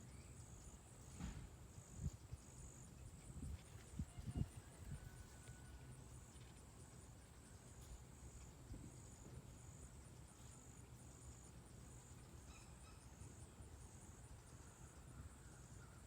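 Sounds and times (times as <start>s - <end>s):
faint insect trill: 0.0s - 16.0s.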